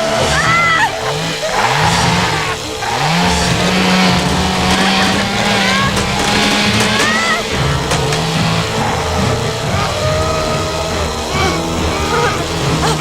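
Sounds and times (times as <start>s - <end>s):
motor engine running loudly: 0.0s - 13.0s.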